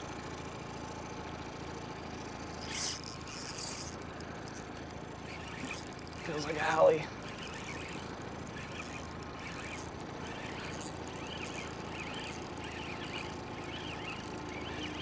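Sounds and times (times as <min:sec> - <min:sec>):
steady low hum: 0:02.2 - 0:15.0
high arching chirps: 0:02.6 - 0:15.0.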